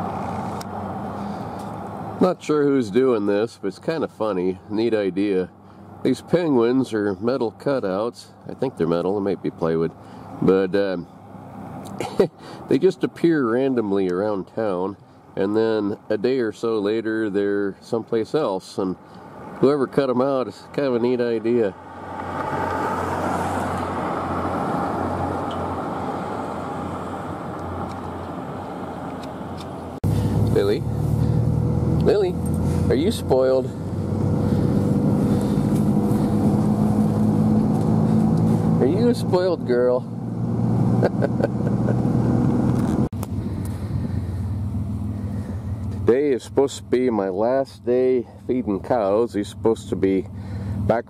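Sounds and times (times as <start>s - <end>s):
low engine hum: 0.0s - 51.0s
road noise rush: 0.0s - 51.0s.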